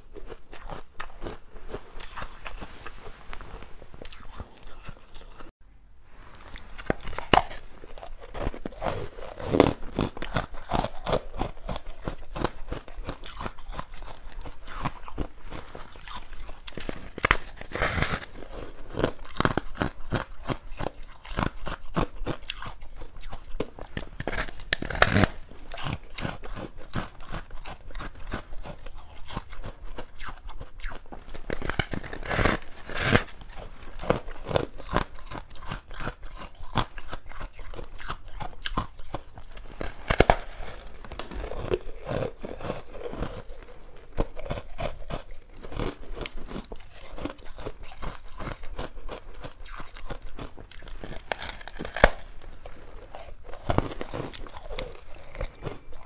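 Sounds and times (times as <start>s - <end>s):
crunchy chewing: 0.0s - 5.5s, 6.2s - 56.0s.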